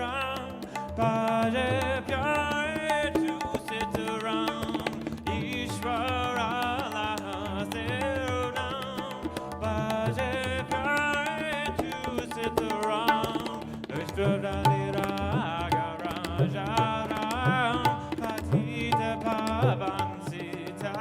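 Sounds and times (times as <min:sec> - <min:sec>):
sharp tabla strokes: 0:00.0 - 0:21.0.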